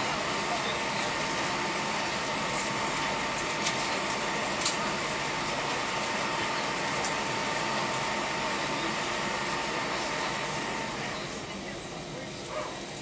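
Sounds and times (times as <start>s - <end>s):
airplane cabin engine rush: 0.0s - 13.0s
thin steady whine: 0.0s - 13.0s.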